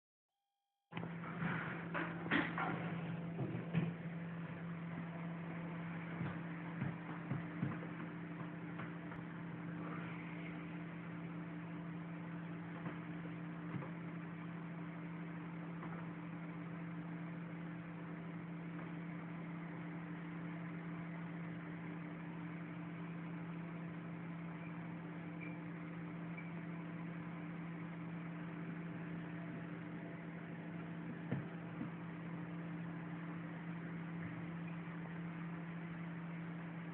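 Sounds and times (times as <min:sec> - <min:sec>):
low electrical hum: 0:00.9 - 0:36.9.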